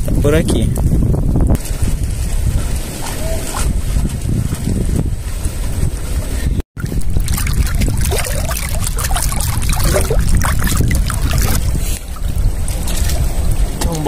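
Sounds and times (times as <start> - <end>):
wind rumble on microphone: 0.0 - 14.0
water splashing and sloshing: 1.3 - 14.0.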